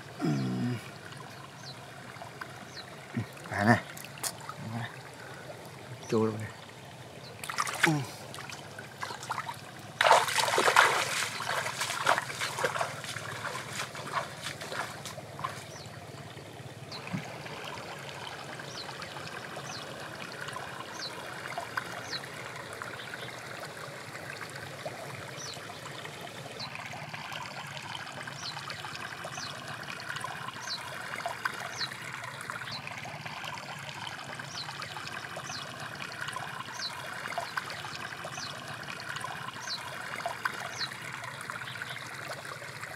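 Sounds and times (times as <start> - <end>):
shallow stream water running: 0.0 - 42.9.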